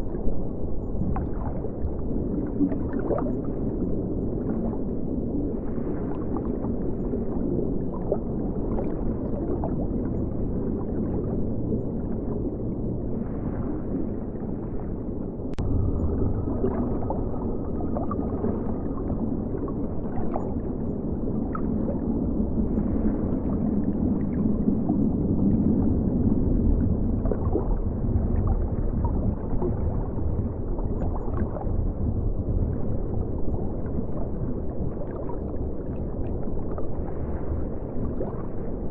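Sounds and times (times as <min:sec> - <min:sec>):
underwater river rumble and gurgle: 0:00.0 - 0:38.9.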